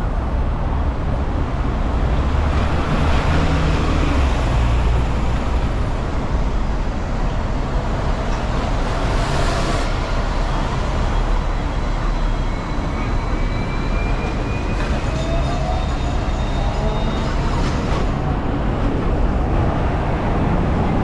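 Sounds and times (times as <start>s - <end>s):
tram running with low rumble: 0.0s - 21.0s.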